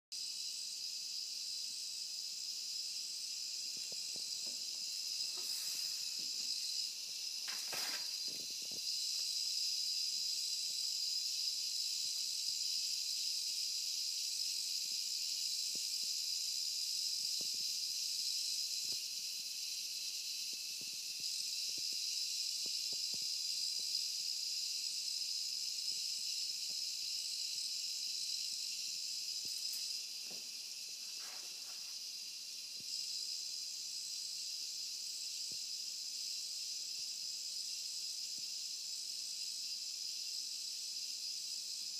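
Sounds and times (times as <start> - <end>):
electronic cicada buzz: 0.1 - 41.9.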